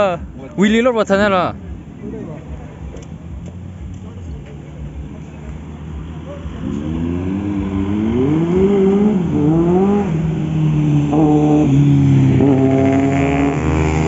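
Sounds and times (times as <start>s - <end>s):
vehicle engines revving: 0.0s - 14.0s.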